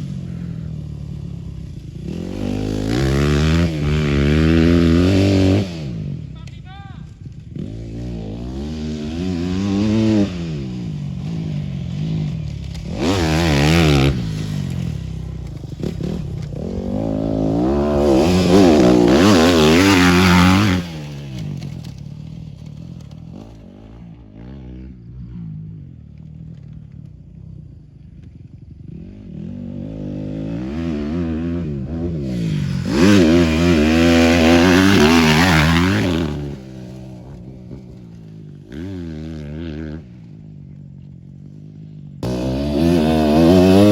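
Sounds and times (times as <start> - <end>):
motorcycle engines revving: 0.0 - 43.9.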